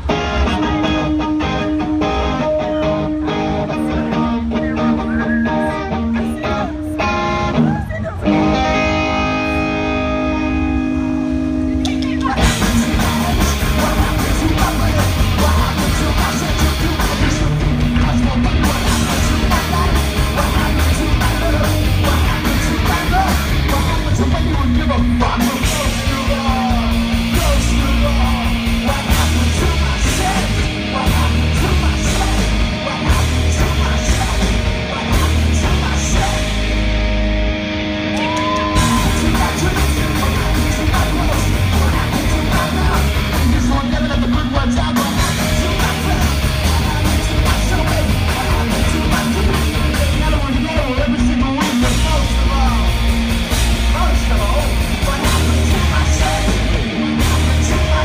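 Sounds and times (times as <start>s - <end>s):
bass: 0.0s - 58.0s
distorted electric guitar: 0.0s - 58.0s
drums: 0.0s - 58.0s
vocals: 0.0s - 58.0s.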